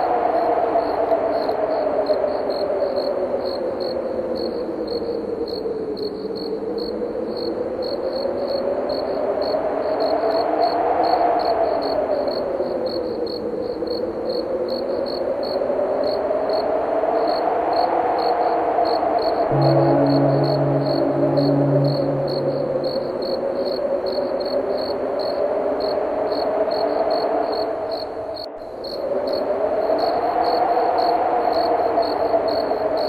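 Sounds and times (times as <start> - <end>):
howling wind: 0.0 - 33.0.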